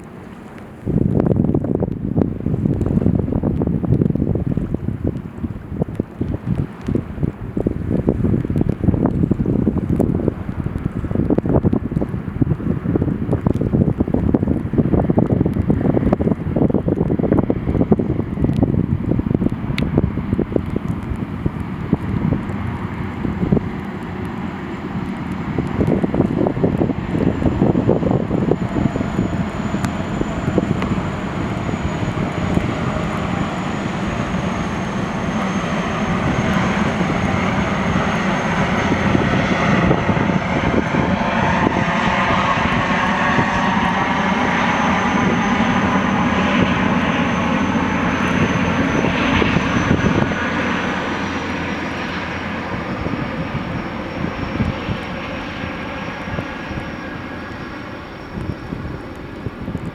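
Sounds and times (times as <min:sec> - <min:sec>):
gas turbines whining: 0:11.7 - 0:59.9.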